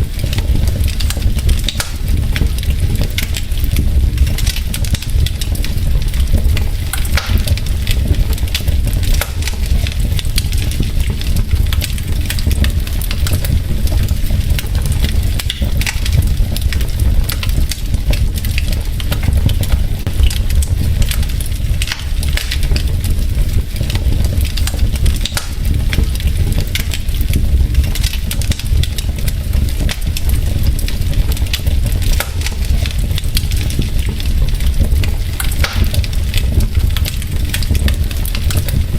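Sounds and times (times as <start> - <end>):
wood logs crackling in fireplace: 0.0 - 38.9.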